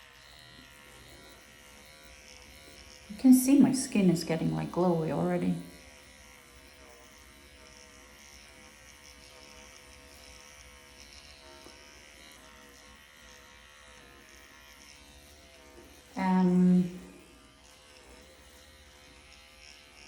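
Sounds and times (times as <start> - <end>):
motorized pen buzzing: 0.0 - 20.0.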